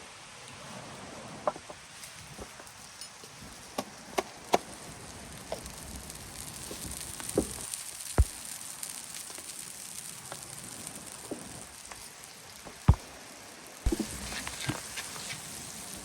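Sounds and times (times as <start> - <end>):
wood fire crackling: 0.5 - 16.0.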